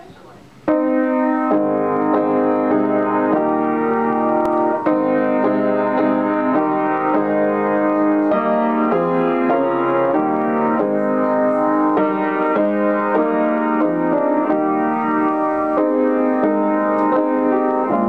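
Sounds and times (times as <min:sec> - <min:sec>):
upright piano playing hymn chords: 0:00.0 - 0:18.0.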